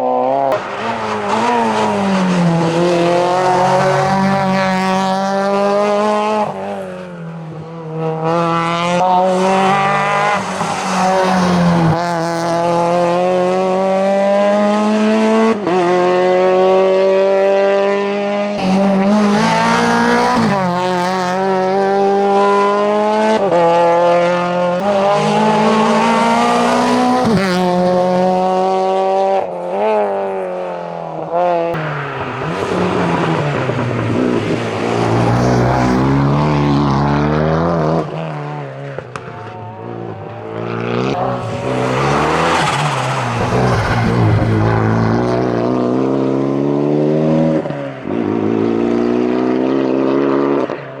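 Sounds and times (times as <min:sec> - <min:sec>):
rally car engine revving: 0:00.0 - 0:51.0.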